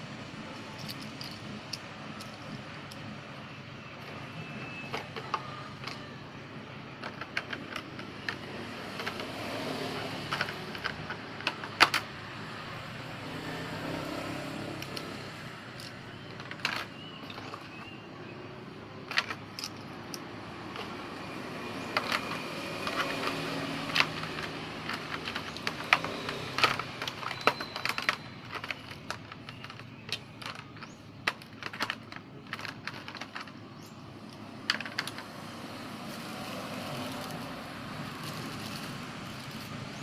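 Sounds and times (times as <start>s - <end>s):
steady background noise: 0.0s - 40.0s
small hard objects clicking: 0.6s - 3.3s, 4.0s - 12.7s, 13.3s - 40.0s.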